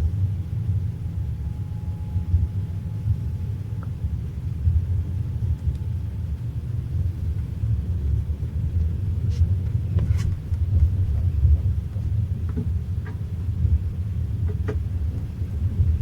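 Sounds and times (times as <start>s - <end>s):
train carriage rumbling on track: 0.0s - 16.0s.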